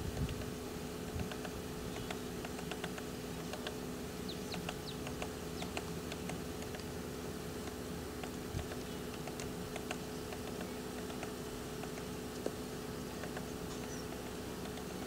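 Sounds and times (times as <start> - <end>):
steady low hum: 0.0 - 15.0
woodpecker tapping on bark: 0.1 - 15.0.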